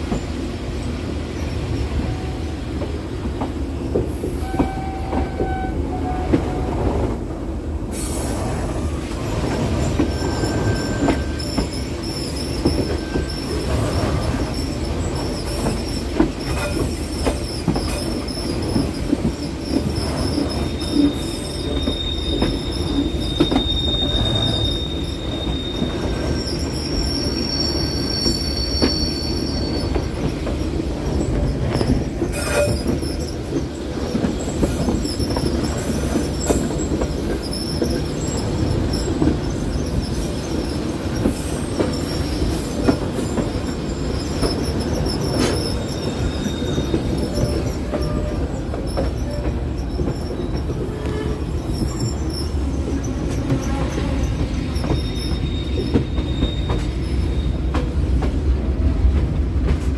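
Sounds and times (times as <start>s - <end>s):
low train running rumble: 0.0s - 59.9s
train wheels squealing on rails: 0.0s - 59.9s.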